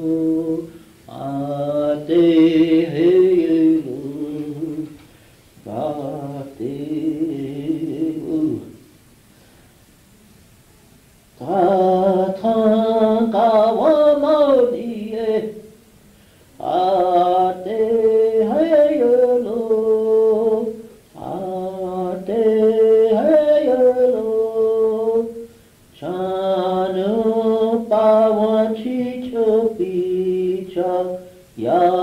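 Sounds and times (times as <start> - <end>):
person singing unaccompanied chant: 0.0 - 5.0, 5.6 - 8.9, 11.4 - 15.8, 16.6 - 32.0.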